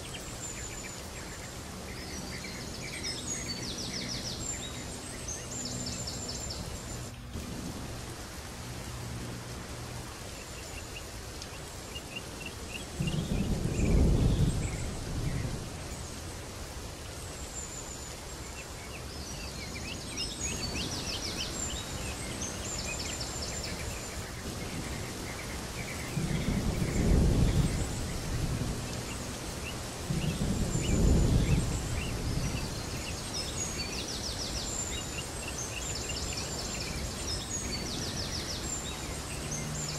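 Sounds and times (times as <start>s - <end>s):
small birds chirping: 0.0s - 9.0s, 9.6s - 39.9s.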